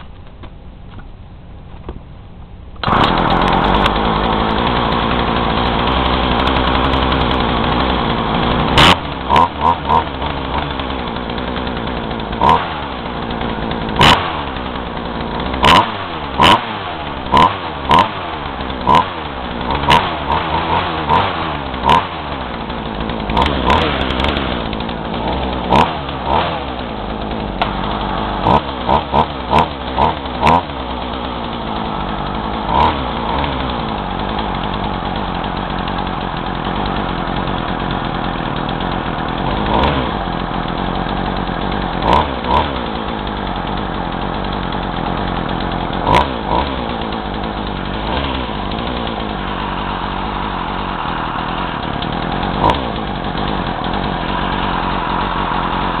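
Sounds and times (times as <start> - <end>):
chainsaw idling and revving: 2.8 - 56.0.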